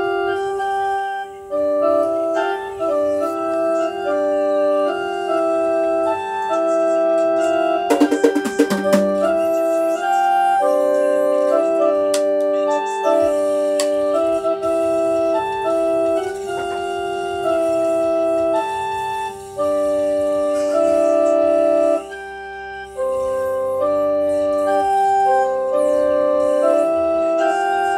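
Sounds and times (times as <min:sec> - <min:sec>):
electronic organ chords: 0:00.0 - 0:27.9.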